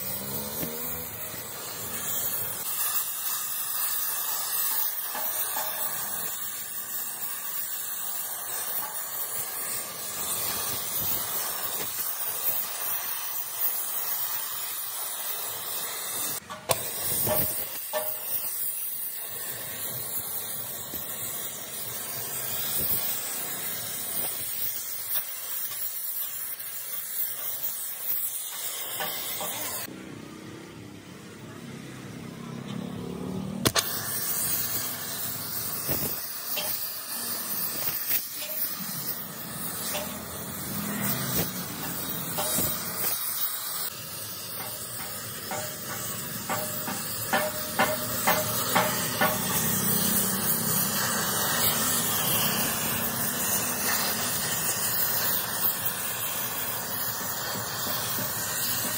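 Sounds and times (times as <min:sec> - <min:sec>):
gas torch flame hissing: 0:00.0 - 0:29.9, 0:32.5 - 0:58.9.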